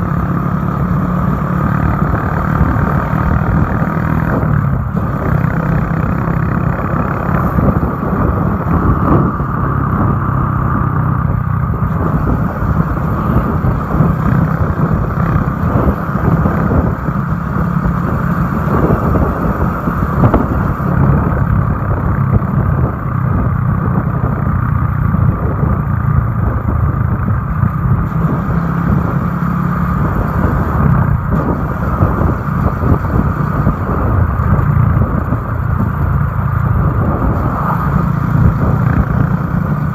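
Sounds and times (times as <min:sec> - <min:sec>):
wind rushing: 0:00.0 - 0:23.0, 0:27.8 - 0:39.9
motorcycle engine running: 0:00.0 - 0:39.9.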